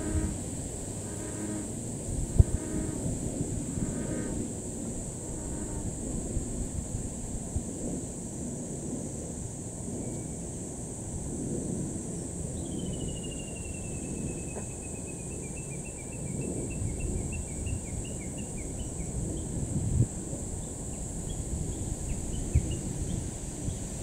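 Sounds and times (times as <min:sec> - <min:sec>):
high insect buzz: 0:00.0 - 0:08.7, 0:11.8 - 0:24.0
wind rumble on microphone: 0:00.0 - 0:24.0.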